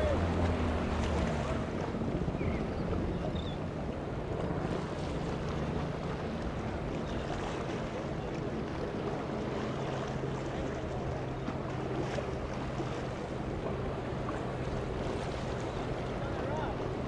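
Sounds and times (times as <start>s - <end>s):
boat engines humming: 0.0s - 17.0s
water noise: 0.0s - 17.0s.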